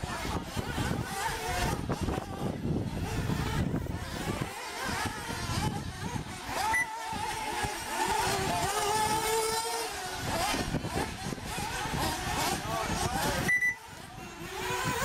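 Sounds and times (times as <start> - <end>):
rc car motors whining: 0.0 - 15.0.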